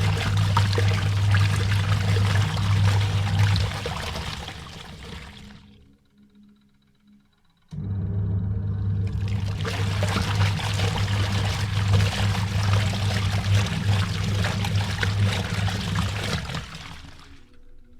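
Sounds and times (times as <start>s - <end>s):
water pouring in machine: 0.0s - 5.8s, 7.8s - 17.5s
washing machine hum: 0.0s - 6.0s, 7.7s - 17.8s.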